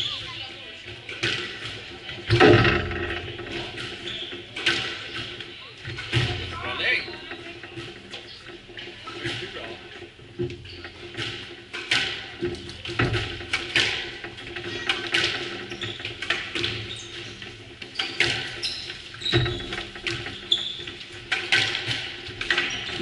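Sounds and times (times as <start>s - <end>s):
squash ball smacking rackets and walls: 0.0s - 23.0s.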